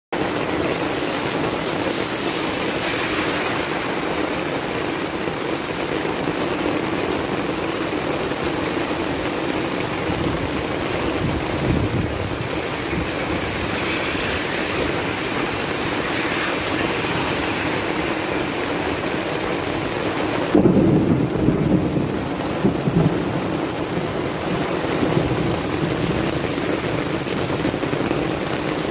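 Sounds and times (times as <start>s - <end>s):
heavy rain: 0.1s - 28.9s.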